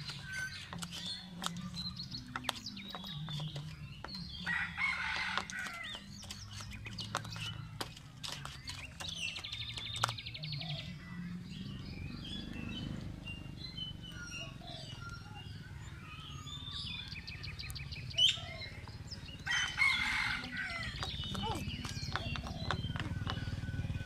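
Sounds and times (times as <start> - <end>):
birds chirping: 0.0 - 24.0
rapid rattling bird trills: 0.0 - 24.0.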